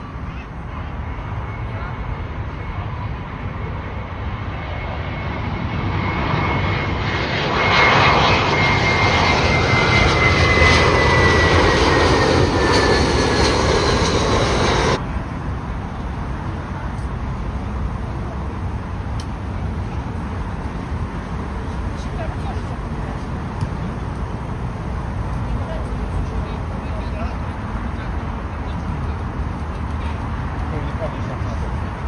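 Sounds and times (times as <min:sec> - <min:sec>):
jet airliner passing overhead: 0:00.0 - 0:32.0.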